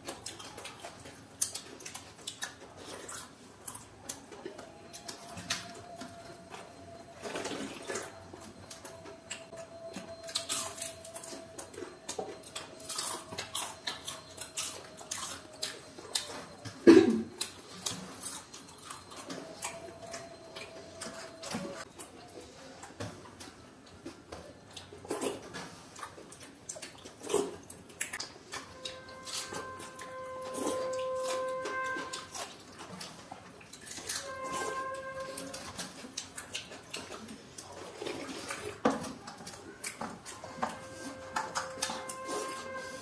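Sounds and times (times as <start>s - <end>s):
chewing and lip smacks: 0.0s - 34.2s, 35.3s - 40.8s.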